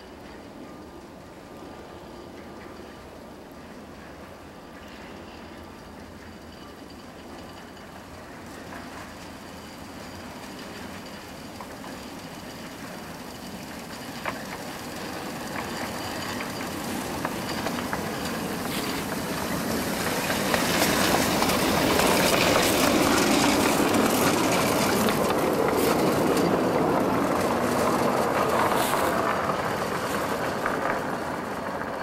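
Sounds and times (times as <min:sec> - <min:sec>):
steam locomotive passing: 0:00.0 - 0:32.0.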